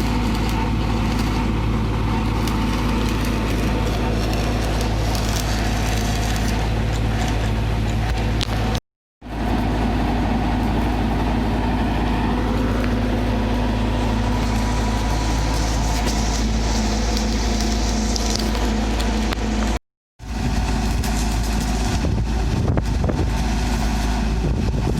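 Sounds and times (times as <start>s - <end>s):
heavy machine engine running: 0.0s - 24.9s.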